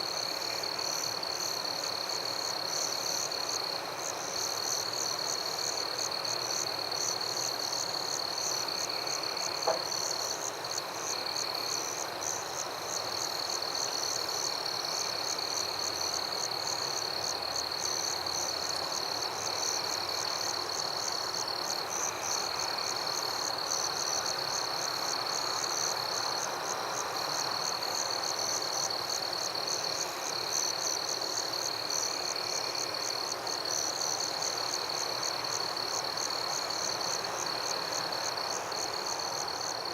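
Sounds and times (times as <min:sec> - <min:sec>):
frogs and insects chorus: 0:00.0 - 0:39.9.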